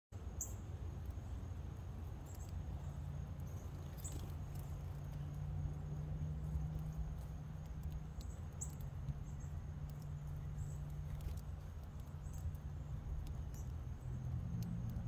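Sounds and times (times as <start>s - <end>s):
small birds chipping: 0.1s - 15.0s
steady low rumble: 0.2s - 15.0s.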